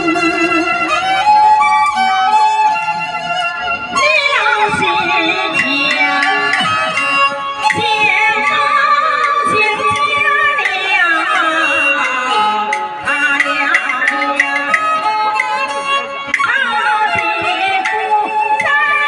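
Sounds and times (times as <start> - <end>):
bowed fiddles: 0.0 - 18.9
sharp percussion clacks: 3.3 - 19.0.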